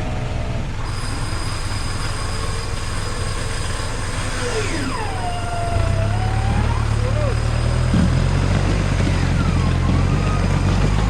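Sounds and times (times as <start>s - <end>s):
off-road engine under load: 0.0s - 11.0s.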